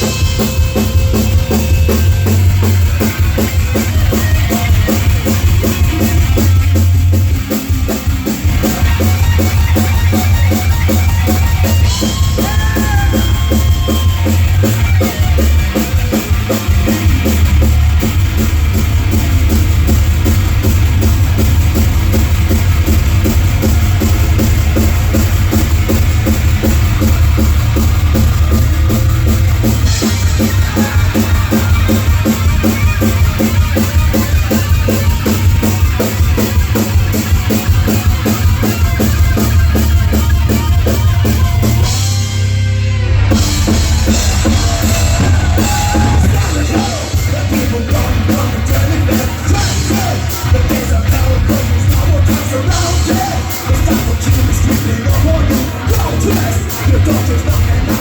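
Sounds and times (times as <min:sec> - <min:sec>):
fast drum beat: 0:00.0 - 0:42.4, 0:43.2 - 0:58.0
heavy metal band playing live: 0:00.0 - 0:58.0.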